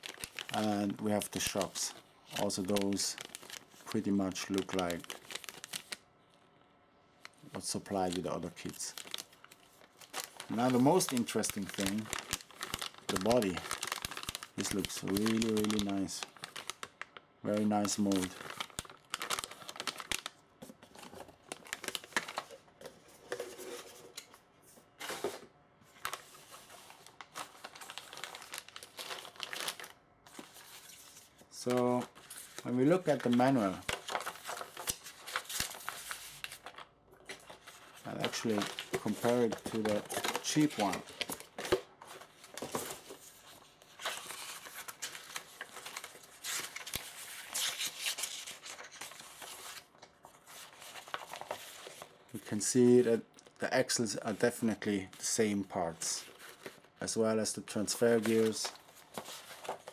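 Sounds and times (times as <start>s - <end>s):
plastic packaging rustling: 0.0s - 6.2s, 7.2s - 59.9s.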